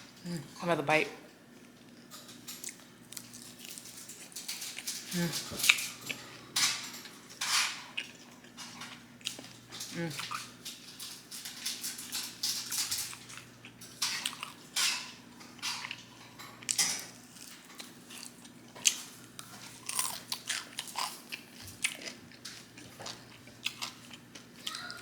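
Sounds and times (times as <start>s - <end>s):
crunchy chewing: 1.6s - 25.0s.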